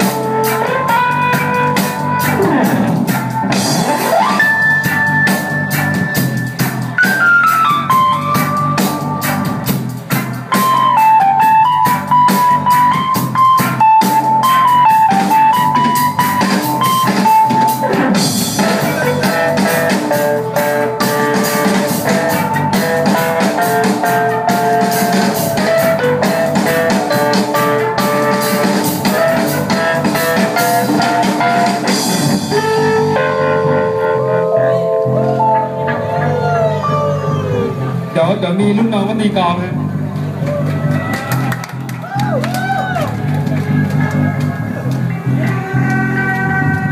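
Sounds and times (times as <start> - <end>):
live band with drums and keyboards: 0.0 - 46.9.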